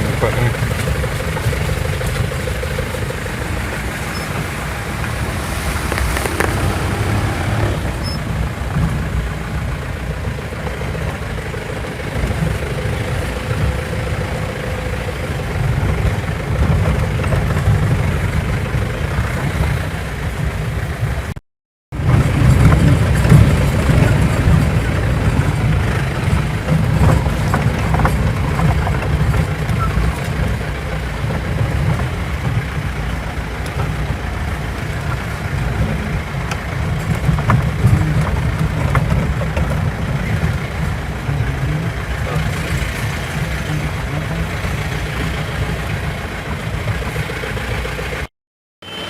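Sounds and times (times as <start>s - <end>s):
jeep engine rumbling: 0.0s - 48.3s.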